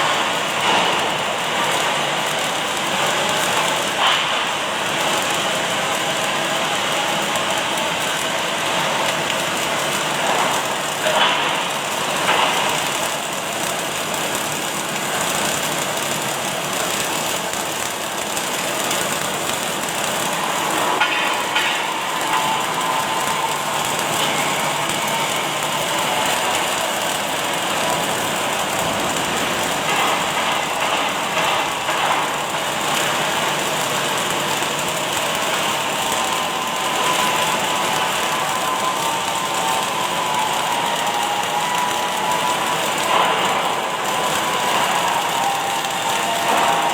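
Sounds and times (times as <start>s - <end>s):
welding machine hissing: 0.0s - 46.9s.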